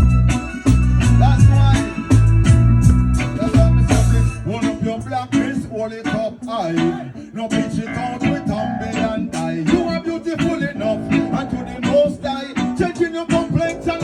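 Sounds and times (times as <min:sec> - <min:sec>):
guitar: 0:00.0 - 0:14.0
live reggae band playing: 0:00.0 - 0:14.0.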